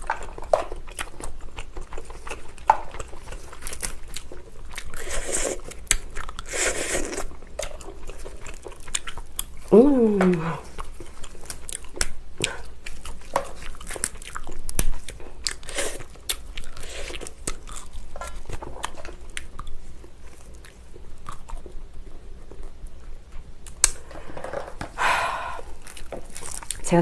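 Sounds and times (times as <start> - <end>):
person chewing and biting: 0.0 - 9.7, 10.4 - 24.1, 25.5 - 26.8.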